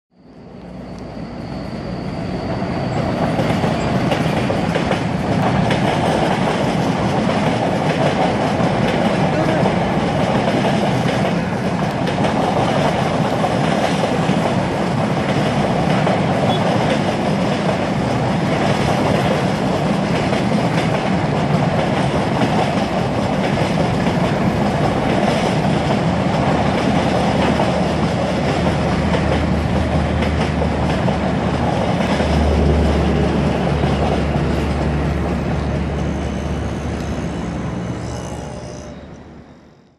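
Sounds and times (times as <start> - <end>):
train coaches rumbling past: 0.2 - 39.9.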